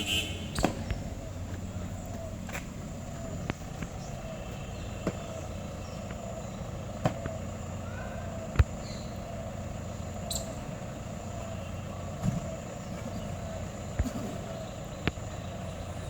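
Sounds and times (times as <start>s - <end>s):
fire pump engine running: 0.0s - 16.0s.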